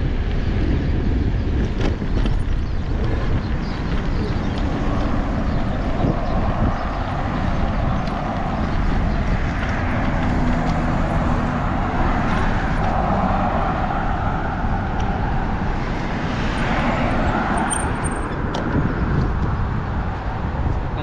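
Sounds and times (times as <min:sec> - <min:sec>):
road traffic din: 0:00.0 - 0:21.0
wind rumble on microphone: 0:00.0 - 0:21.0.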